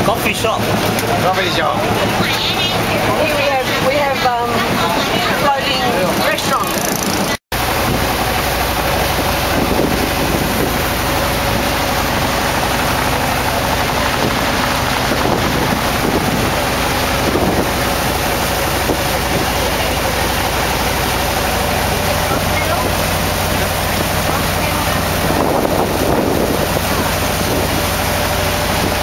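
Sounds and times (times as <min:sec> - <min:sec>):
boat engine running: 0:00.0 - 0:29.0
water rushing past hull: 0:00.0 - 0:29.0
wind buffeting microphone: 0:02.8 - 0:29.0.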